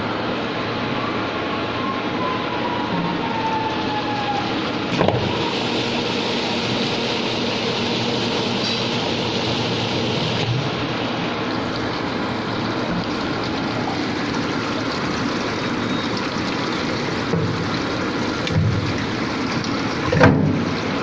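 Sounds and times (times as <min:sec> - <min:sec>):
washing machine motor hum: 0:03.3 - 0:21.0.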